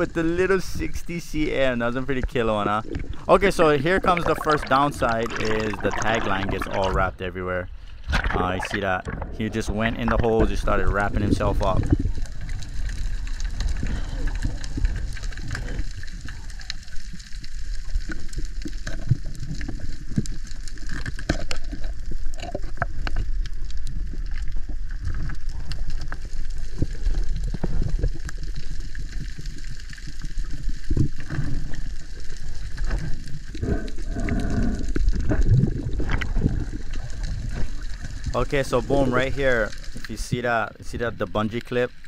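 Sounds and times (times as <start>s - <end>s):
muffled gurgling: 0.0s - 28.7s, 30.4s - 42.0s
crackling clicks underwater: 0.0s - 42.0s
underwater rumble of moving water: 0.0s - 42.0s.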